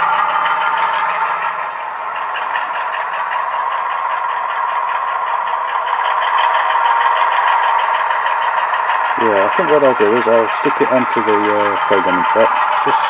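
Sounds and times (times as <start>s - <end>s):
diesel engine sound from small speaker: 0.0s - 13.0s.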